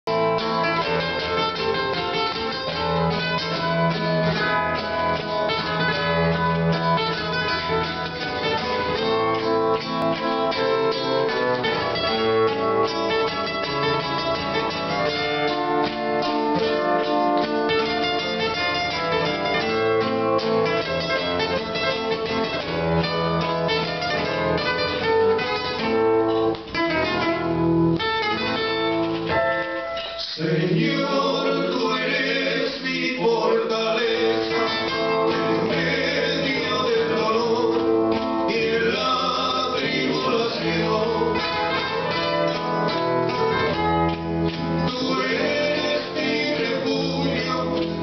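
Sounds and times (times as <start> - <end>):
acoustic guitars playing: 0.0 - 48.0.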